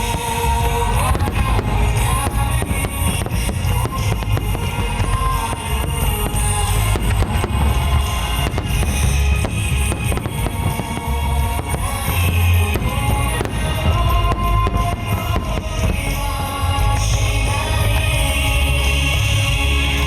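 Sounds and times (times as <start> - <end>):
fireworks bursting and crackling: 0.0 - 20.0
loud music with heavy drum beat: 0.0 - 20.0.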